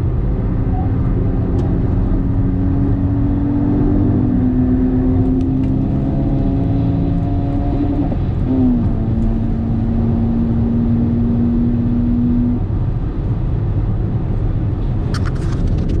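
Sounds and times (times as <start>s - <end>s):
car engine running: 0.0s - 16.0s
road and tyre rumble: 0.0s - 16.0s.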